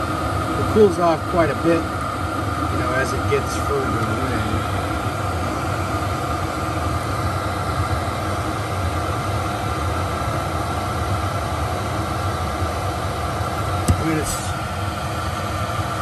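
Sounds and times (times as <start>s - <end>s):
air heater fan rushing: 0.0s - 16.0s.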